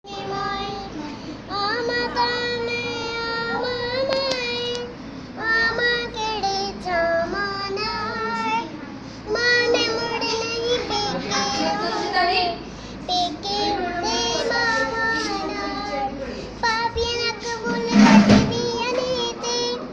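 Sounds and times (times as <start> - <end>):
girl singing in a high voice: 0.0 - 8.7, 9.3 - 12.2, 13.1 - 19.9.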